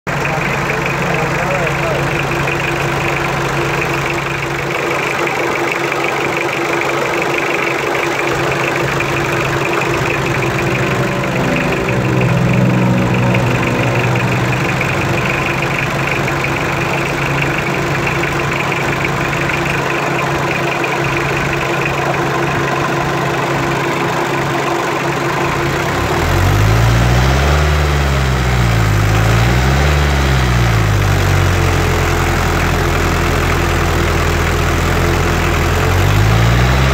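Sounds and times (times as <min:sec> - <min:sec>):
diesel engine idling and revving: 0:00.0 - 0:36.9.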